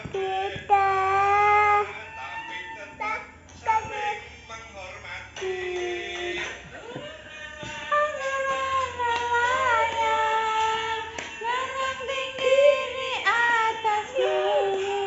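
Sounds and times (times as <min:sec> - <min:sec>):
child singing: 0:00.0 - 0:02.1, 0:03.0 - 0:04.3, 0:05.4 - 0:07.1, 0:07.7 - 0:15.0.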